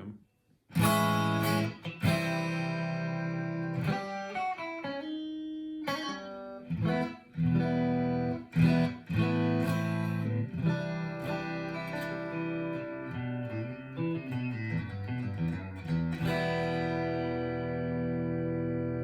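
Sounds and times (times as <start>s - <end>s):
clean electric guitar chords: 0.8s - 19.0s.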